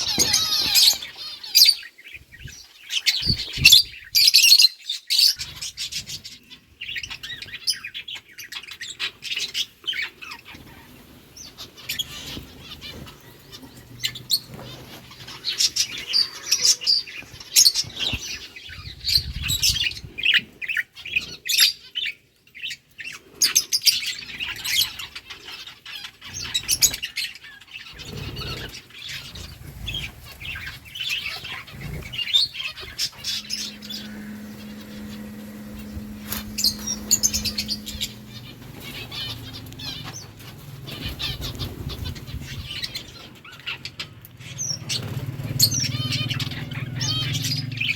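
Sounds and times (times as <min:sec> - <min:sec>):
lovebirds chirping: 0:00.0 - 0:47.9.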